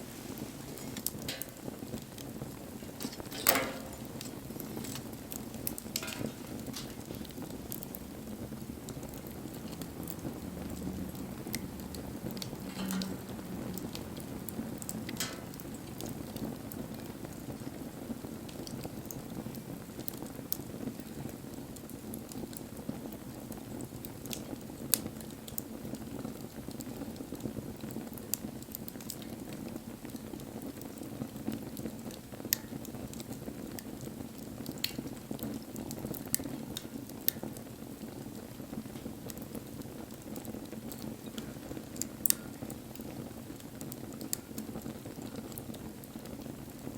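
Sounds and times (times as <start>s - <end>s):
campfire flames rushing: 0.0s - 46.9s
wood crackling and popping: 0.0s - 46.9s.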